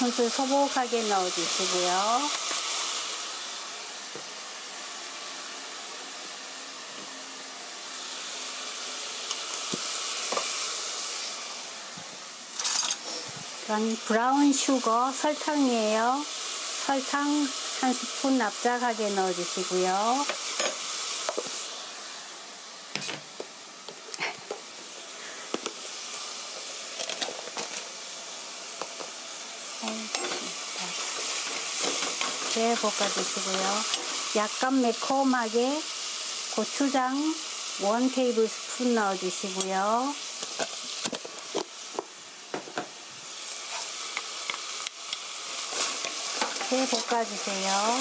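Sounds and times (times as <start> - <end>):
vegetables sizzling in a pan: 0.0 - 48.0.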